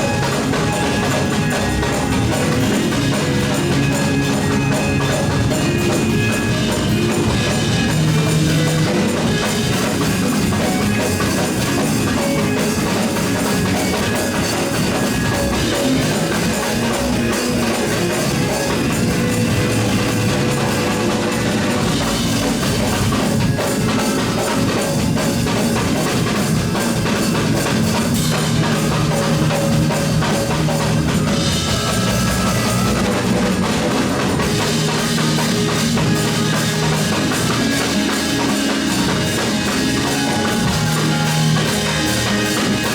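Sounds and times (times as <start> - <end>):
drum kit beat: 0.0 - 42.9
live church band music: 0.0 - 42.9.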